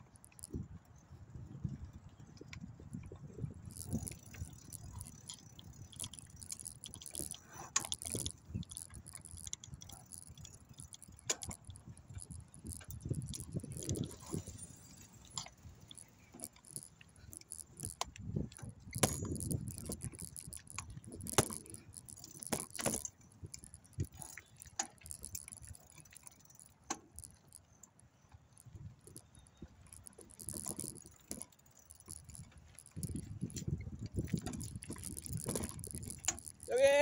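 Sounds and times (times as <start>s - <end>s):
bicycle rattling over rough trail: 0.0s - 37.0s
metallic jangle of loose parts: 3.6s - 27.8s, 28.5s - 37.0s.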